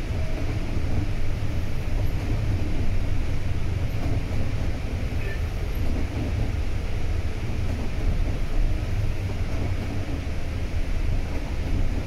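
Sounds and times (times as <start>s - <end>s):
bus diesel engine rumbling: 0.0s - 12.0s
road noise: 0.0s - 12.0s.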